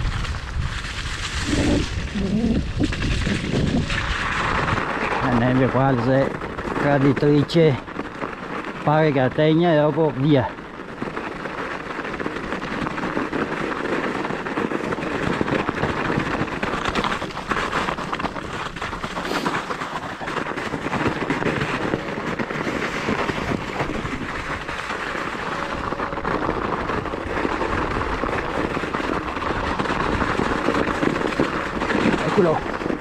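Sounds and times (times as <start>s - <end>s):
bike rattling: 0.0s - 33.0s
bike tyres crunching over snow: 0.0s - 33.0s.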